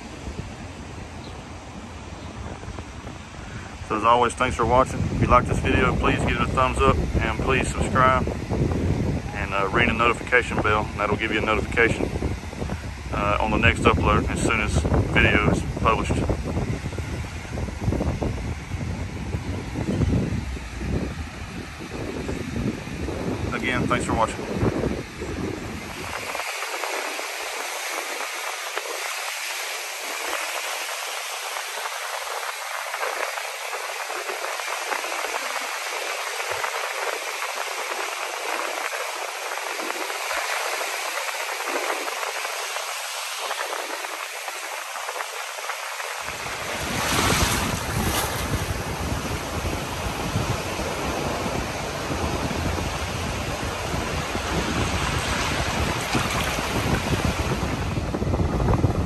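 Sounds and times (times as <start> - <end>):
ocean surf washing on beach: 0.0 - 59.0
wind: 0.0 - 59.0
wind buffeting microphone: 0.0 - 59.0.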